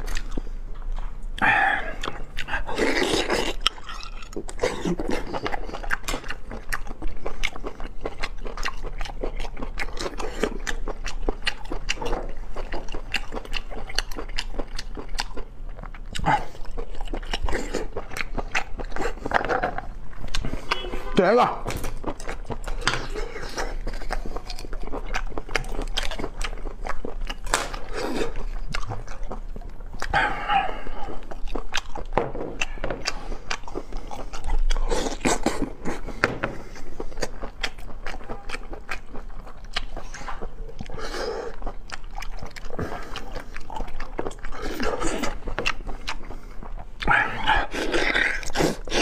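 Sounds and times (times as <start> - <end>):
wet chewing and mouth smacks: 0.0 - 21.0, 21.7 - 49.0.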